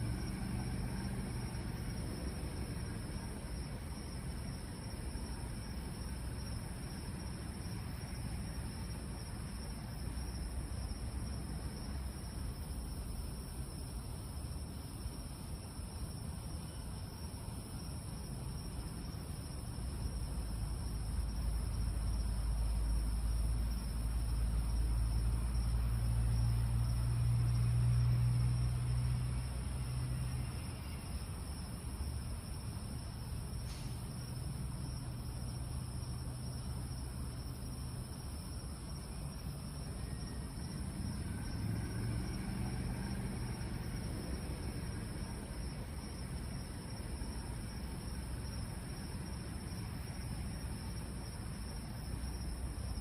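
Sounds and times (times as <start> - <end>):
crickets trilling: 0.0 - 53.0
high insect drone: 0.0 - 53.0.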